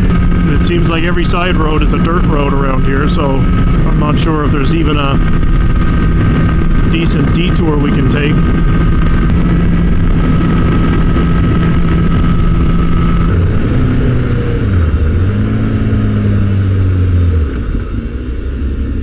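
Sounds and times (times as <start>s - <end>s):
motorcycle engine running: 0.0s - 19.0s
wind rush: 0.0s - 19.0s.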